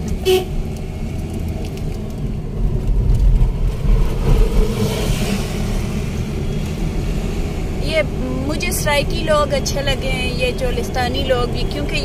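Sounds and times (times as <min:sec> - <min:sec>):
car engine accelerating: 0:00.0 - 0:12.0
road rumble: 0:00.0 - 0:12.0.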